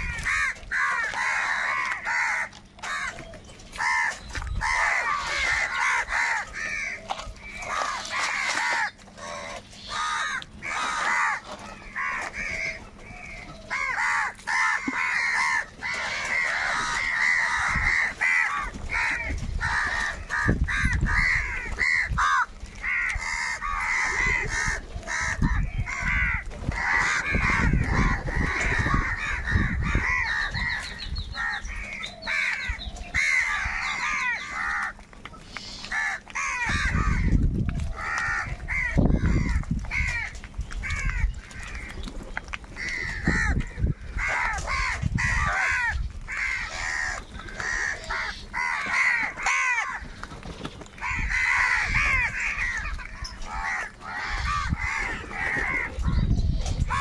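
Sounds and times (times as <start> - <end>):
crows cawing: 0.0 - 57.0.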